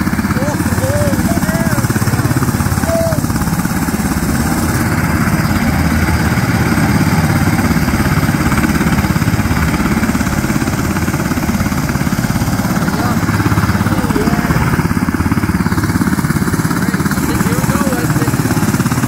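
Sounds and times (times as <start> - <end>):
helicopter engine rush: 0.0 - 19.0
helicopter rotor chop: 0.0 - 19.0.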